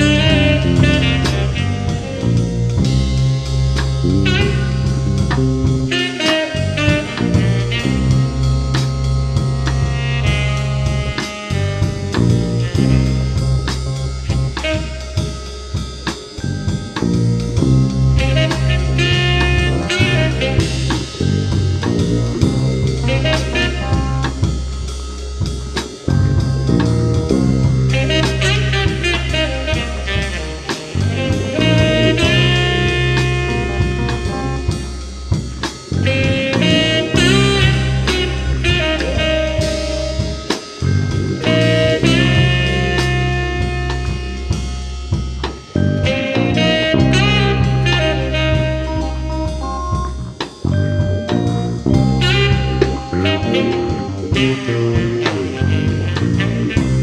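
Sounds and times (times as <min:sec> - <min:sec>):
lo-fi instrumental music: 0:00.0 - 0:57.0.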